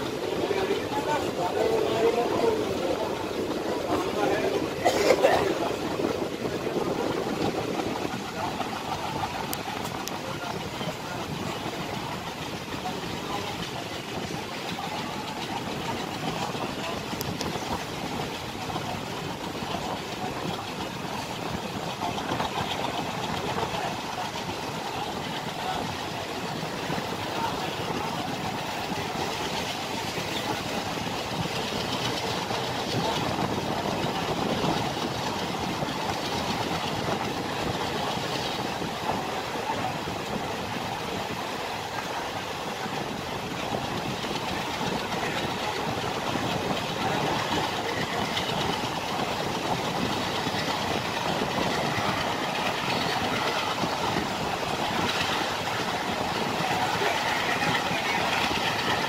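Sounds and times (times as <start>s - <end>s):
train wheels on rails: 0.0s - 59.0s.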